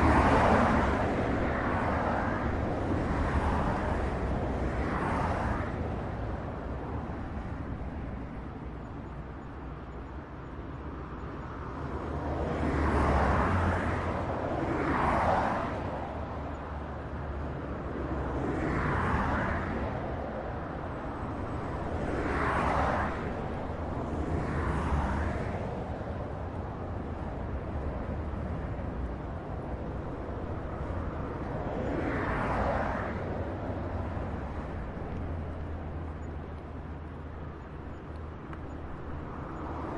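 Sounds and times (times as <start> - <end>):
low rumble of road noise: 0.0 - 39.9
vehicles passing by: 0.0 - 39.9.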